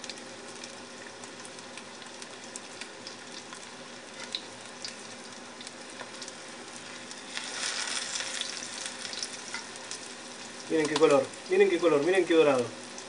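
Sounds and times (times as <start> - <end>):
fish fillets sizzling in oil: 0.0 - 13.0.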